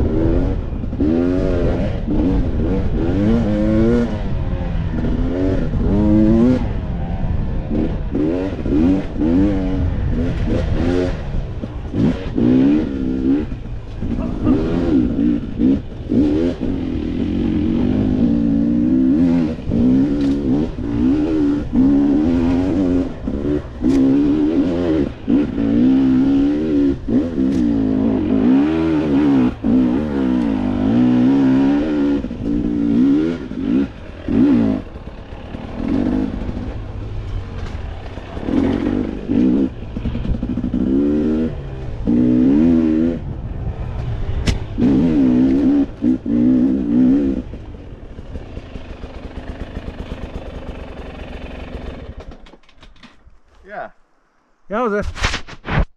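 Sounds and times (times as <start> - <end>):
dirt bike engine revving: 0.0 - 52.5.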